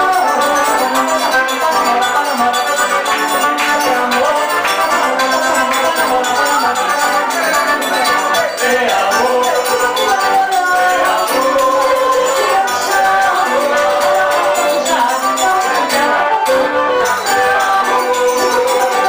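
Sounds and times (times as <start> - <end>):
accordion melody: 0.0 - 19.0
guitar: 0.0 - 19.0
jingling hand percussion: 0.0 - 19.0.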